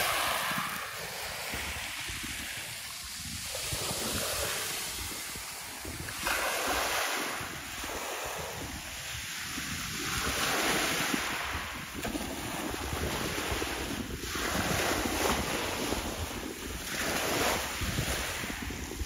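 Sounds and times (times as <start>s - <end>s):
waves washing in: 0.0s - 19.0s
wind buffeting microphone: 0.0s - 19.0s.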